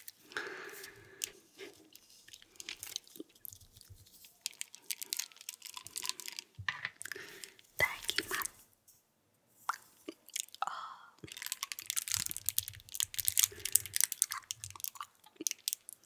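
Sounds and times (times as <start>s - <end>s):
plastic bottle crackling: 0.0s - 8.6s, 11.2s - 16.0s.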